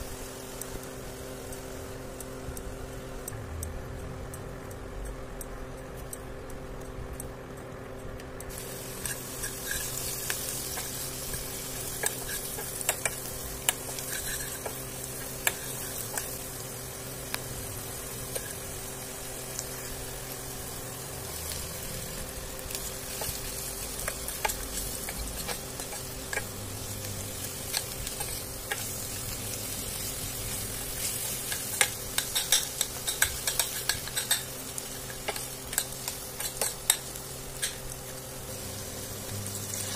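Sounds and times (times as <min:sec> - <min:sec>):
spices frying in oil: 0:00.0 - 0:03.3, 0:05.6 - 0:39.9.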